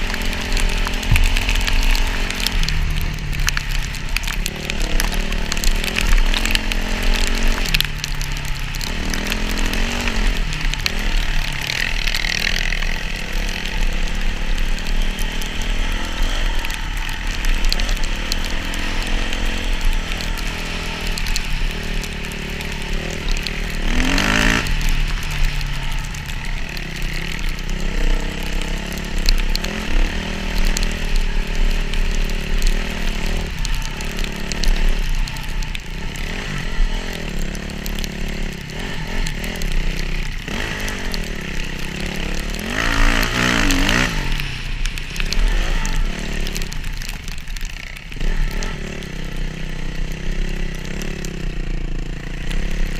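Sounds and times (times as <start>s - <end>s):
dirt bike engine revving: 0.0s - 46.8s.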